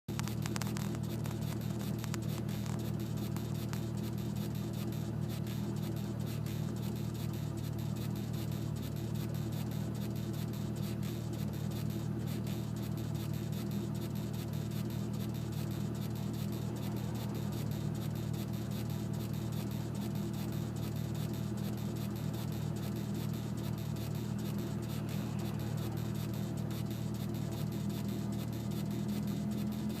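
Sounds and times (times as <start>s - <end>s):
steady hum with low tones: 0.1s - 30.0s.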